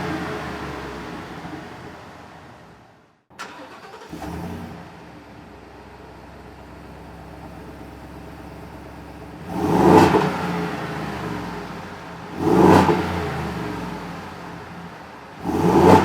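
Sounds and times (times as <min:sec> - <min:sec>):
truck engine idling and revving: 0:00.0 - 0:16.0.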